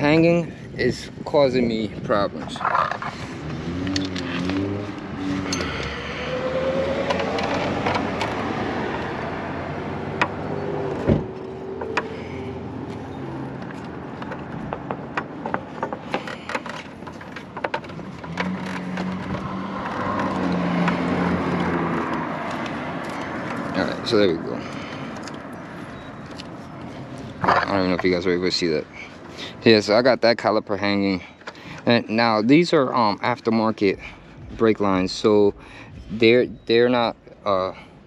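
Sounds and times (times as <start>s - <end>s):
background vehicle noise: 0.0s - 38.0s.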